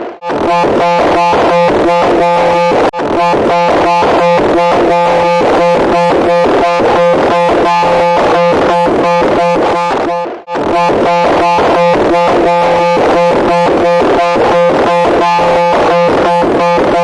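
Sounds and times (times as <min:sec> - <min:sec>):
harsh electronic buzzing tone: 0:00.0 - 0:17.0.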